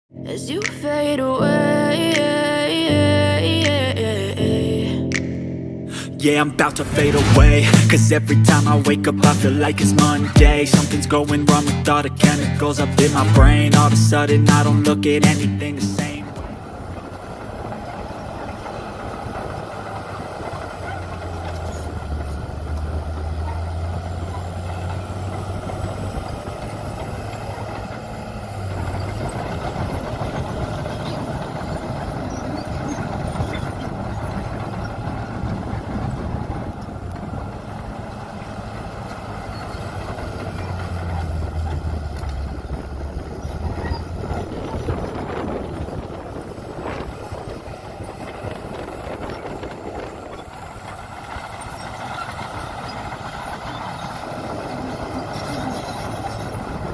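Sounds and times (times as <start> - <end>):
heavy diesel machinery engines: 0.1 - 56.9.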